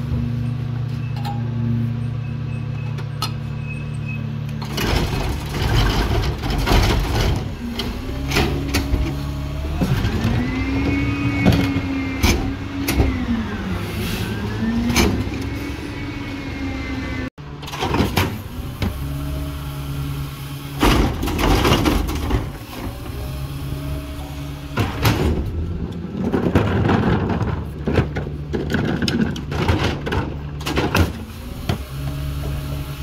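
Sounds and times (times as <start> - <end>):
garbage truck engine: 0.0 - 33.0
trash clattering in hopper: 4.6 - 15.9, 16.7 - 33.0.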